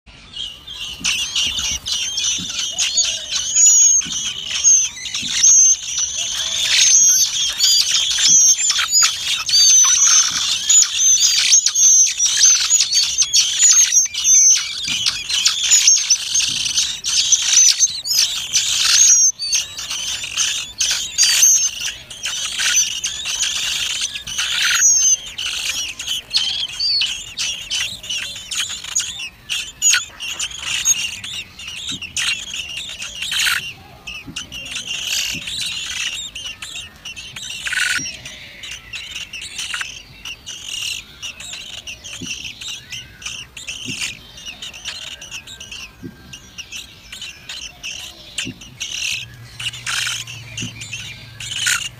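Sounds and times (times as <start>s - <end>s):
nestlings cheeping: 0.3s - 51.9s.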